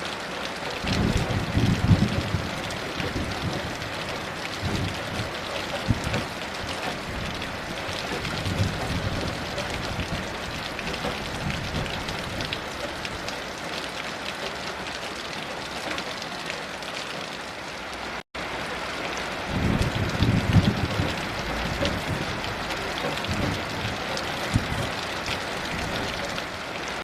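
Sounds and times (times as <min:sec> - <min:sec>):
heavy rain: 0:00.0 - 0:27.0.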